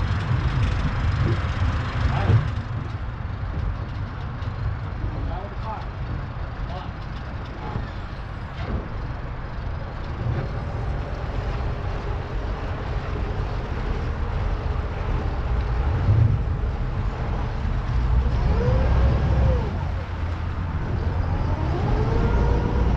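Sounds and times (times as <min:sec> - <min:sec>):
vehicle engine rumbling: 0:00.0 - 0:22.9.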